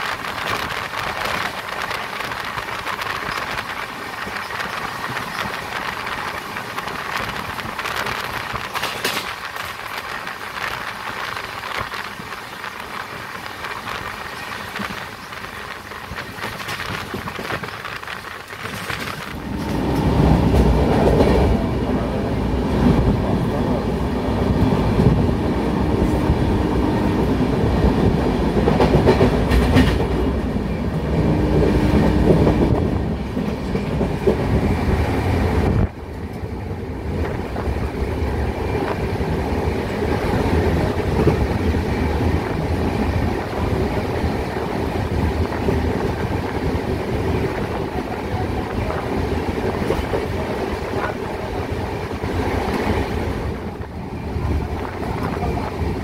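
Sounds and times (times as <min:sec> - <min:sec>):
train wheels rumbling over rails: 0:00.0 - 0:56.0.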